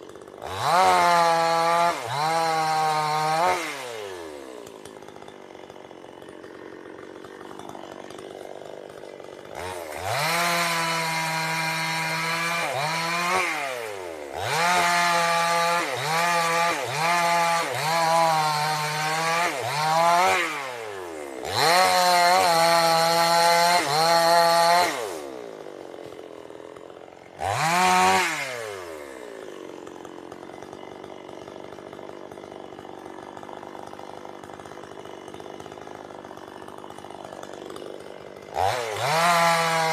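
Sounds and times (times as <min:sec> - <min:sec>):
two-stroke chainsaw revving: 0:00.0 - 0:39.9.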